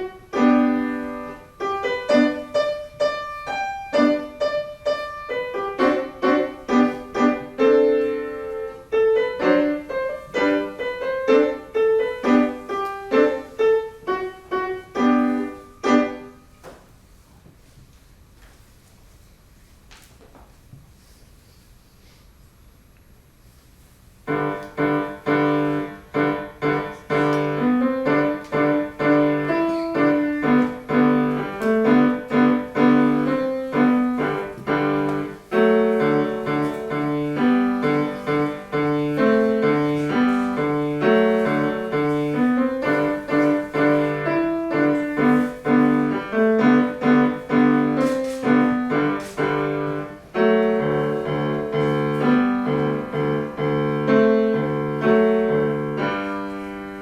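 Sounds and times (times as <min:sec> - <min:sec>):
piano melody: 0:00.0 - 0:16.7, 0:24.2 - 0:57.0.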